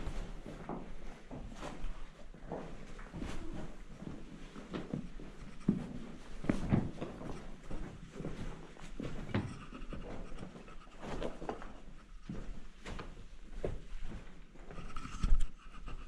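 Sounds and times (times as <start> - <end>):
footsteps on stony floor: 0.0 - 15.5.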